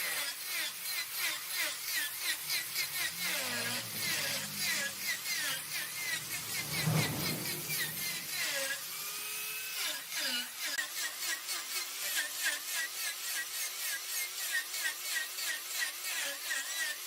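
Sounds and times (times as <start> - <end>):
wood lathe scraping and whirring: 0.0 - 17.0.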